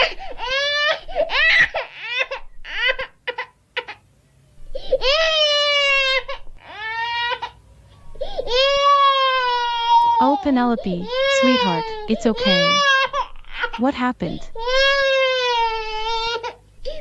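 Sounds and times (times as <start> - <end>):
infant crying: 0.0 - 4.0, 4.7 - 17.0.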